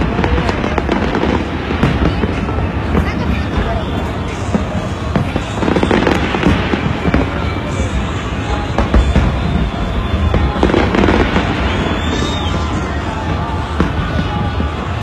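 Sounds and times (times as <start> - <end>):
fireworks bangs and crackling: 0.0 - 15.0
music playing: 0.0 - 15.0.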